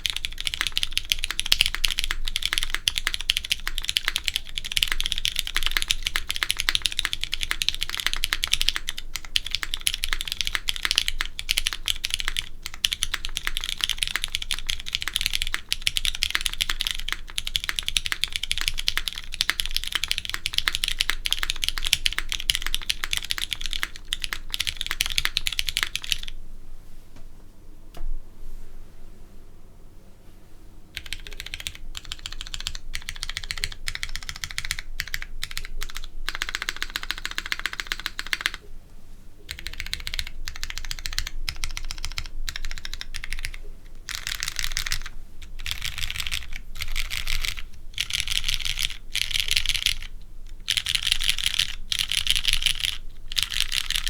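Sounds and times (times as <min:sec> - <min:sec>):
mechanical keyboard typing: 0:00.0 - 0:26.3, 0:31.0 - 0:38.6, 0:39.5 - 0:54.0.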